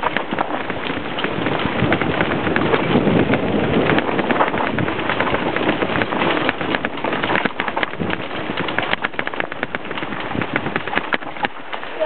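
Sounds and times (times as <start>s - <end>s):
bike clattering over rough ground: 0.0s - 12.0s
bike tires rushing on dirt: 0.0s - 12.0s.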